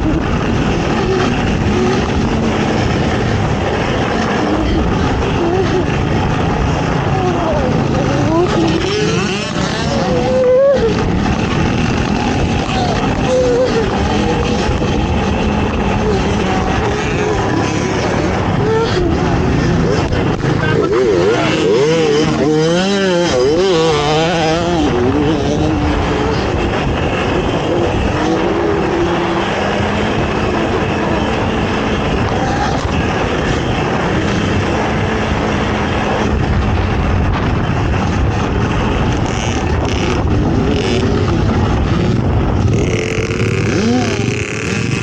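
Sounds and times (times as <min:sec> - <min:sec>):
atv engine running hard: 0:00.0 - 0:45.0.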